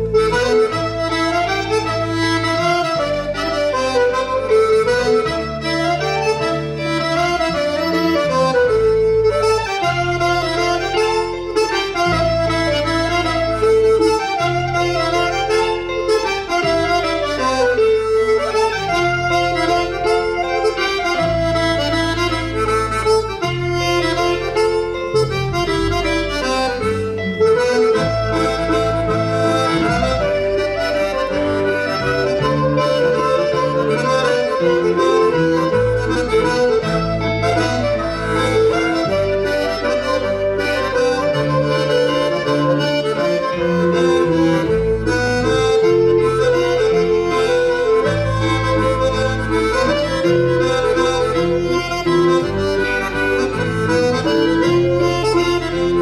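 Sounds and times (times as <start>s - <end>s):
bass line: 0.0s - 56.0s
free-reed melody: 0.0s - 56.0s.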